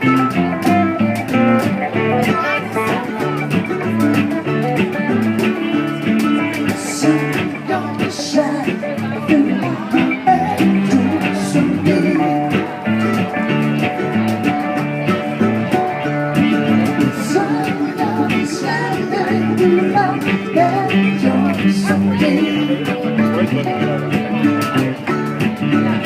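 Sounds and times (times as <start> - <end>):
guitar: 0.0 - 26.0
hand drums: 0.0 - 26.0
mandolin: 0.0 - 26.0.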